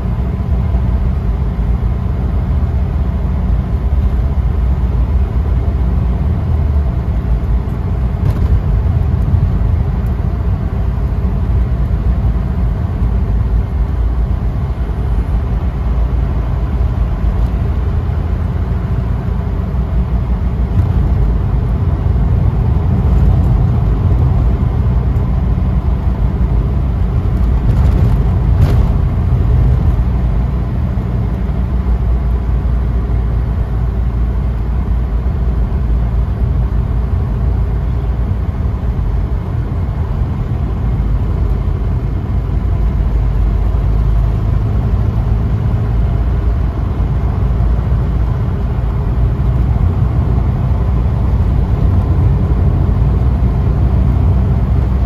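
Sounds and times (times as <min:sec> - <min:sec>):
engine and road noise rumble: 0:00.0 - 0:55.0.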